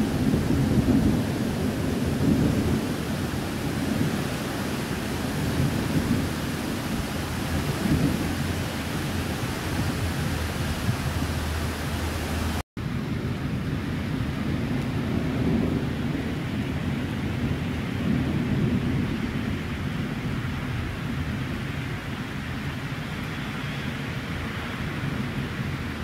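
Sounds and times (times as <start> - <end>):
distant thunder rumbling: 0.0 - 22.8
heavy rain pouring: 0.0 - 26.0.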